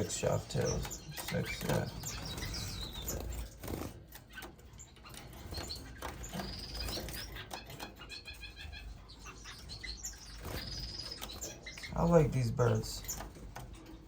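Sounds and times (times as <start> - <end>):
finches chirping: 0.0 - 14.0
small clicks of birds moving: 0.0 - 14.0.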